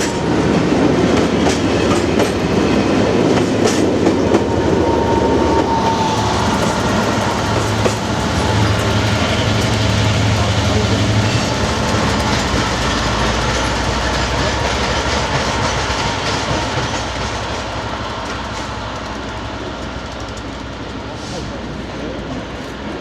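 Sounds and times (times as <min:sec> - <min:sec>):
train wheels clicking over rail joints: 0:00.0 - 0:23.0.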